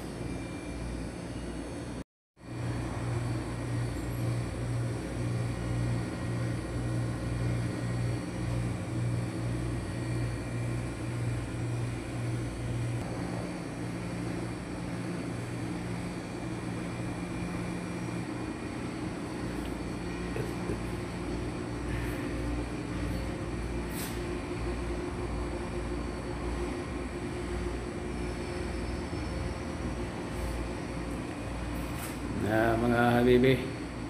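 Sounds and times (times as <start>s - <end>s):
low throbbing machine hum: 1.8s - 34.0s.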